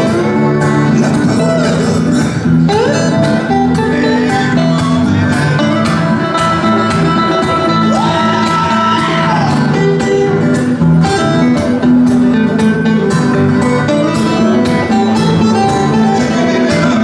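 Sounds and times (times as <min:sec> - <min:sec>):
acoustic guitar strumming chords: 0:00.0 - 0:17.0
lead guitar line: 0:00.0 - 0:17.0.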